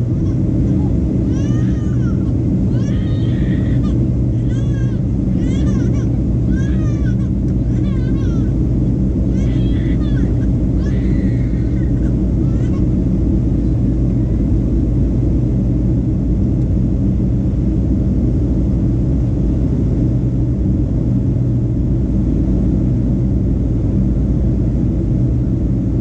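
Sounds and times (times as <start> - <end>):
airplane cabin drone: 0.0 - 26.0.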